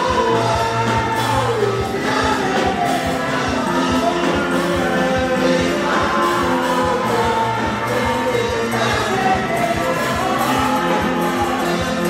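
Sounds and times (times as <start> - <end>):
band playing a steady beat: 0.0 - 12.0
congregation singing: 0.0 - 12.0.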